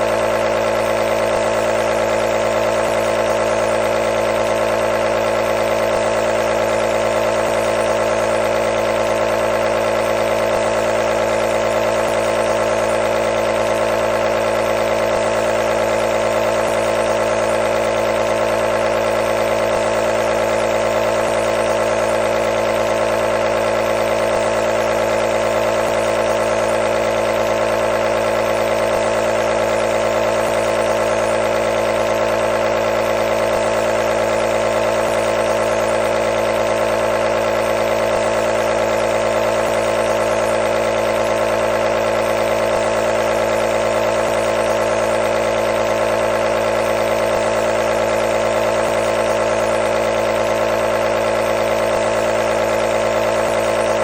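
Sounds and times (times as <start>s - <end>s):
nebulizer compressor humming: 0.0s - 54.0s.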